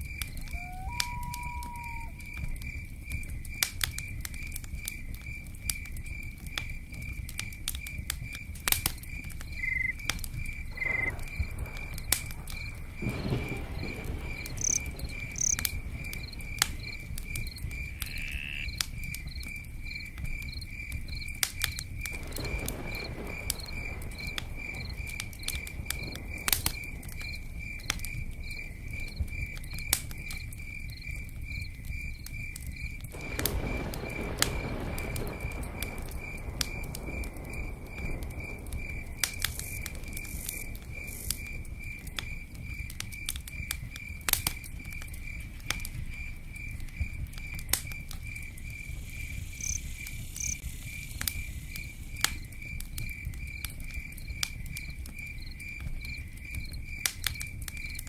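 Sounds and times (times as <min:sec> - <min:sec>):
campfire crackling: 0:00.0 - 0:58.0
cricket chirping: 0:00.0 - 0:58.0.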